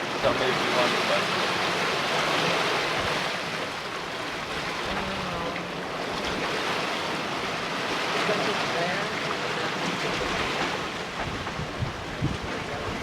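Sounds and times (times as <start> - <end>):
sea water rushing: 0.0 - 13.0.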